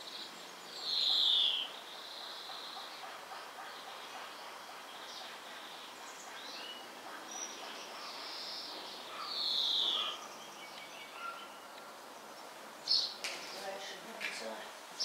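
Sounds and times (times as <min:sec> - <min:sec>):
faint background hiss: 0:00.0 - 0:15.0
small birds chirping: 0:00.0 - 0:15.0.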